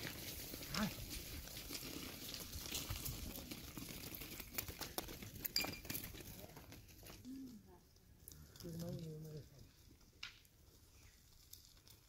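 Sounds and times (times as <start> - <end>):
hooves and footsteps on gravel: 0.0 - 12.0.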